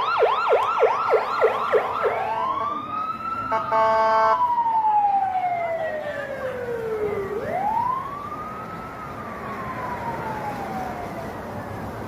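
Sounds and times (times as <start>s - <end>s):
higher siren: 0.0s - 12.0s
police siren wailing: 0.0s - 12.0s.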